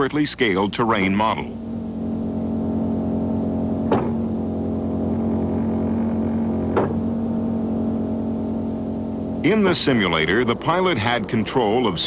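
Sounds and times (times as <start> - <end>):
steady droning hum: 0.0 - 12.0.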